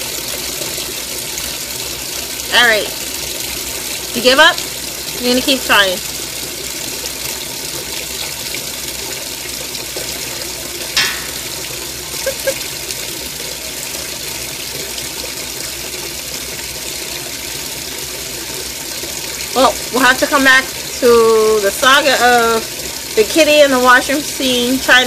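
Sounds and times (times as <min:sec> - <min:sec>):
water pouring into washing machine: 0:00.0 - 0:25.0.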